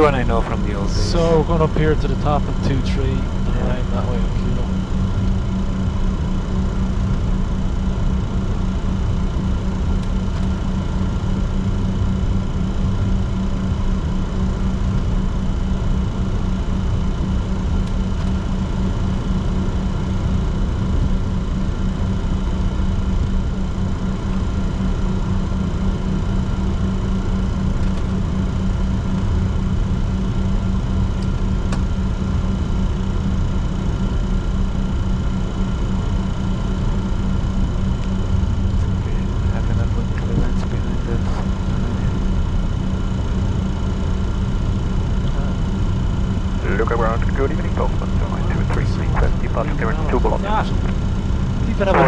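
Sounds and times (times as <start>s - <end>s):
aircraft engines idling hum: 0.0s - 52.0s.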